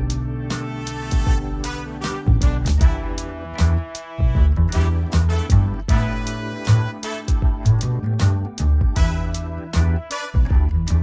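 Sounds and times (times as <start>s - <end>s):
upbeat instrumental music: 0.0s - 11.0s.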